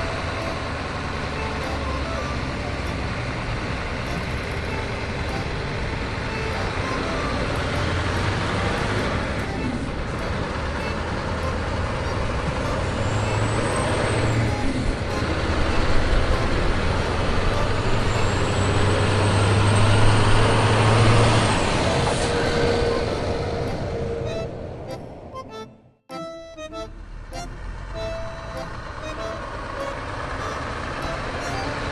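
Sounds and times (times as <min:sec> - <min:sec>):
vehicle engine running: 0:00.0 - 0:25.1, 0:26.4 - 0:31.9
road noise: 0:00.0 - 0:31.9.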